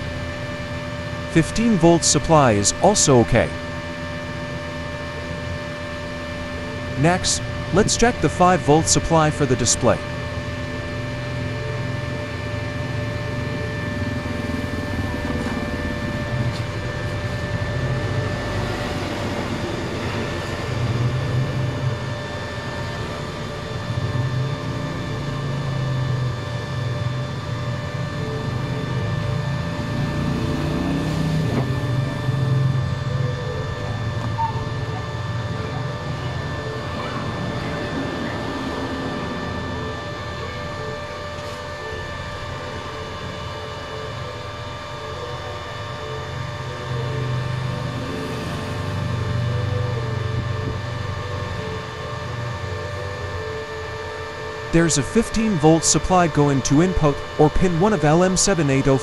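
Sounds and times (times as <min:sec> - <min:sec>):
welding machine cooling fan: 0:00.0 - 0:59.0.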